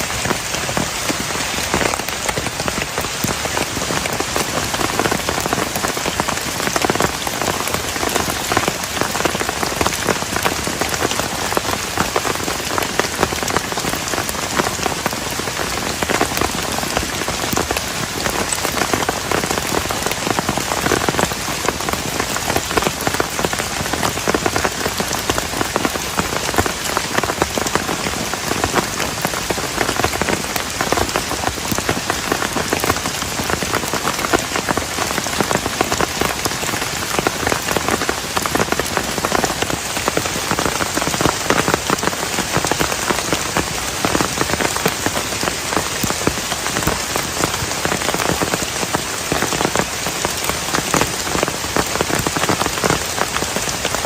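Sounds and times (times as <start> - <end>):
heavy rain on a plastic tarp: 0.0 - 54.0.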